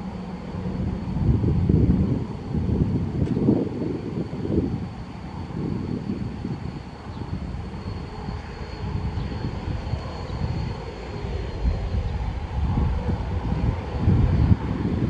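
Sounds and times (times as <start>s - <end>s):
jet engine high whine: 0.0s - 15.0s
jet engine rumble: 0.0s - 15.0s.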